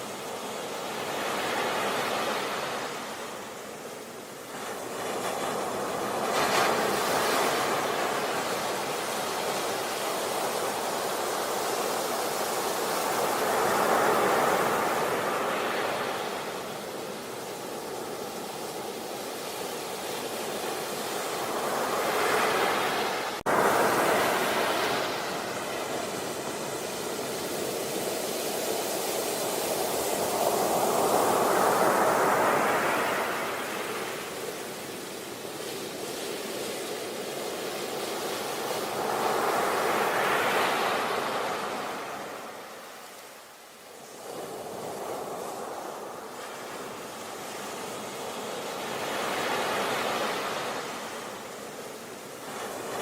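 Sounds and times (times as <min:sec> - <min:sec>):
sea waves washing onto beach: 0:00.0 - 0:53.0.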